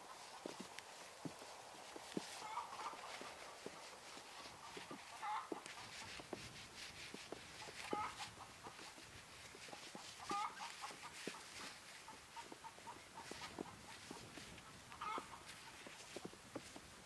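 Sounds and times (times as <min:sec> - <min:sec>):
light clicks and crackles: 0:00.1 - 0:17.0.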